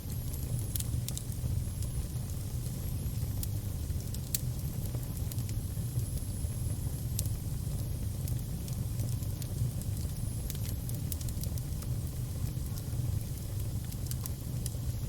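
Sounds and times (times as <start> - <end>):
fire crackling and popping: 0.0 - 15.0
low steady rumble: 0.0 - 15.0.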